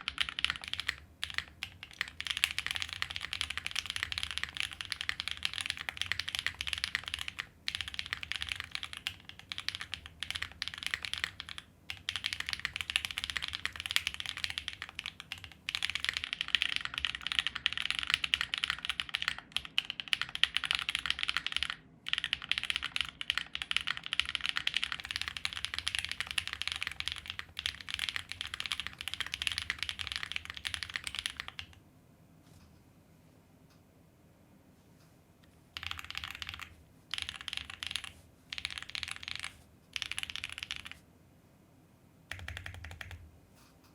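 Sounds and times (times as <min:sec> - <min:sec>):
fast mechanical keyboard typing: 0:00.0 - 0:31.8, 0:35.8 - 0:41.0, 0:42.3 - 0:43.2.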